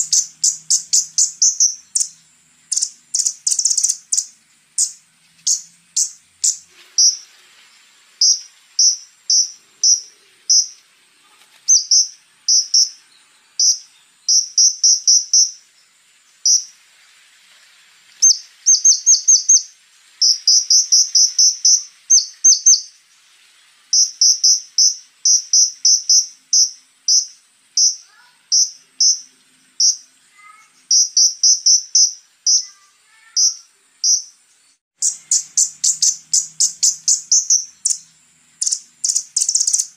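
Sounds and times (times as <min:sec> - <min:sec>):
songbird sharp high chirps: 0:00.0 - 0:07.4, 0:08.2 - 0:10.9, 0:11.6 - 0:16.8, 0:18.2 - 0:23.0, 0:23.9 - 0:39.9.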